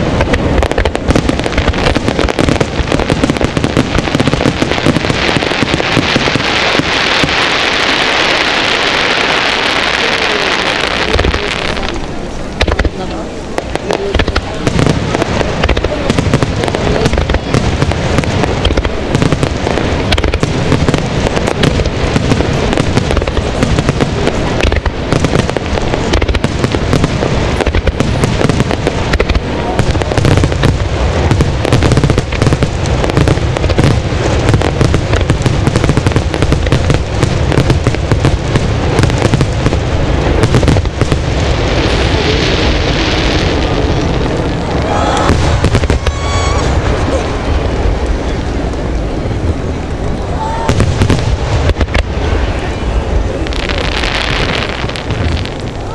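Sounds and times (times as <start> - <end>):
fireworks bursts and bangs: 0.0 - 55.9.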